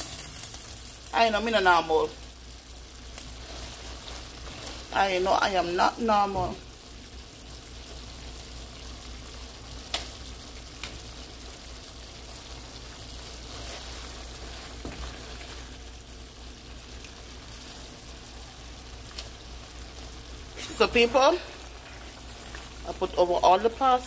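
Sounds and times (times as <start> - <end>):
sauce sizzling in frying pan: 0.0 - 24.0.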